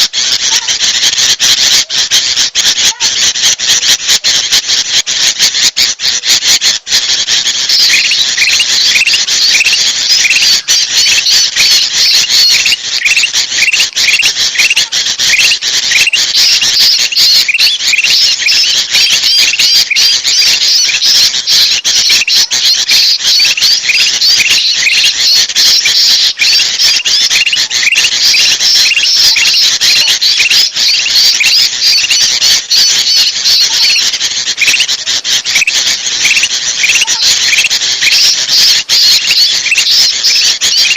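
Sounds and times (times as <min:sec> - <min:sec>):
bulbuls chattering and calling: 0:00.0 - 0:40.9.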